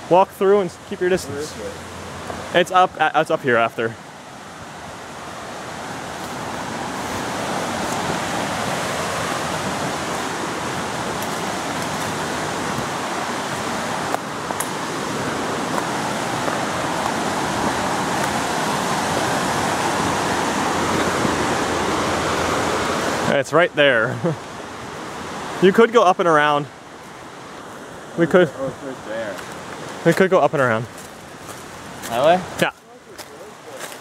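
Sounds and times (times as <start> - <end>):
waterfall and stream rushing: 0.0 - 34.0.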